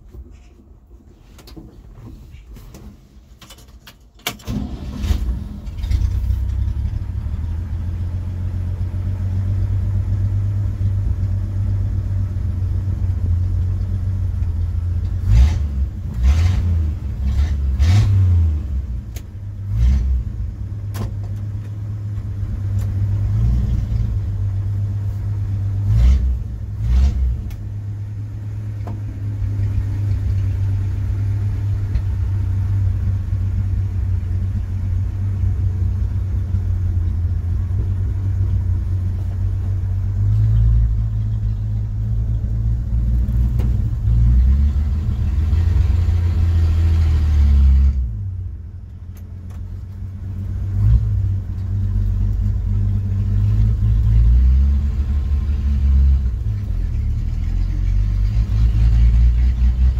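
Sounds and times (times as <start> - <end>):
pickup engine idling and revving: 4.5 - 59.9.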